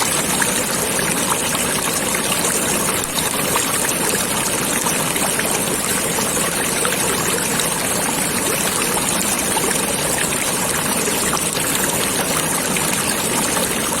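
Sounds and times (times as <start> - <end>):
stream water babbling: 0.0 - 14.0.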